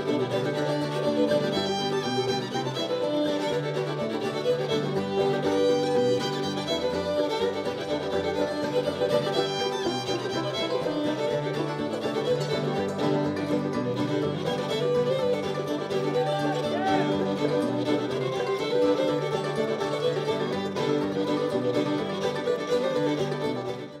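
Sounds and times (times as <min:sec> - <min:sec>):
fiddle: 0:00.0 - 0:24.0
mandolin and plucked strings: 0:00.0 - 0:24.0.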